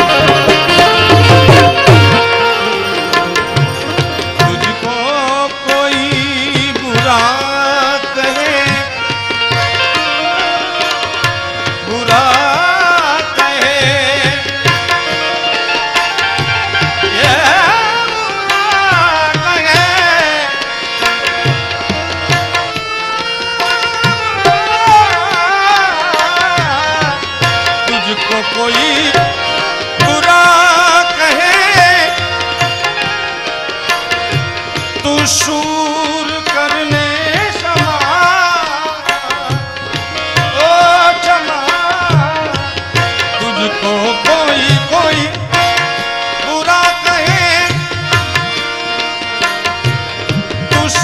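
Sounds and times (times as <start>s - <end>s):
man singing: 0.0s - 48.8s, 49.4s - 51.0s
harmonium: 0.0s - 51.0s
tabla strokes: 0.0s - 51.0s.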